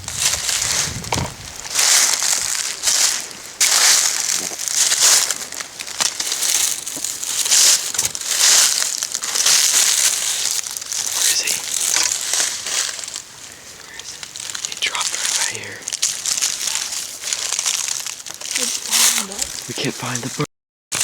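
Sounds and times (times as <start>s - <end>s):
footsteps crunching dry leaves: 0.0s - 20.4s.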